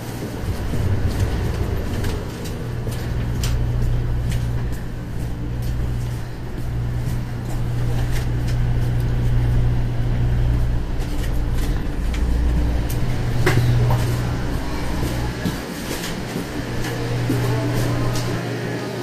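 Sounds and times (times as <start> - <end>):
train carriage rumble and hum: 0.0 - 19.0.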